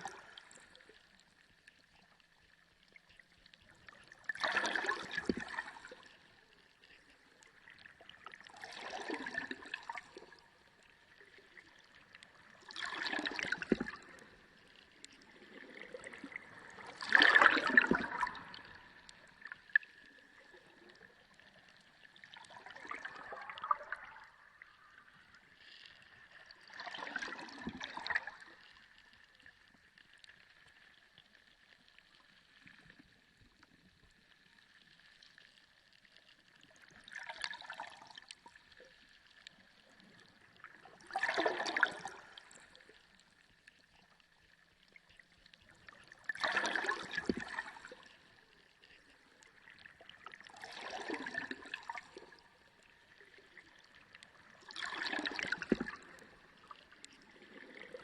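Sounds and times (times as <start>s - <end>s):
sea water sloshing and gurgling: 0.0s - 58.0s.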